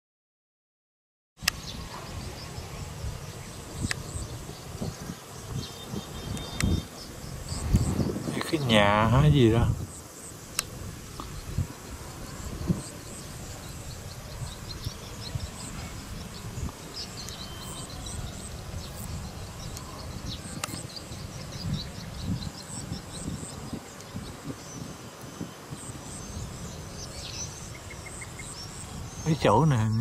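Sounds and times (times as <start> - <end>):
insects chirping: 1.4 - 30.0.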